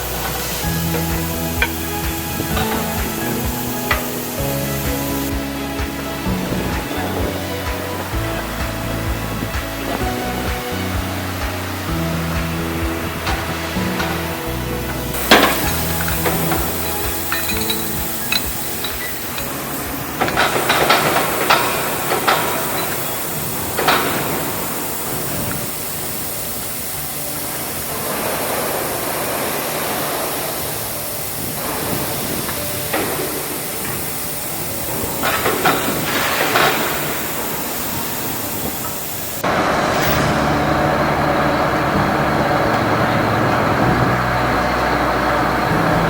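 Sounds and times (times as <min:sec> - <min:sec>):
steady hiss: 0:00.0 - 0:46.0.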